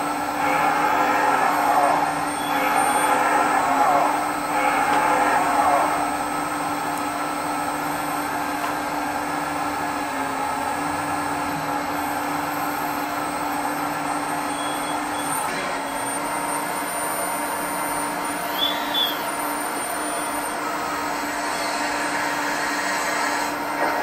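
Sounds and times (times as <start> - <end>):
hydraulic pump whining: 0.0 - 24.0.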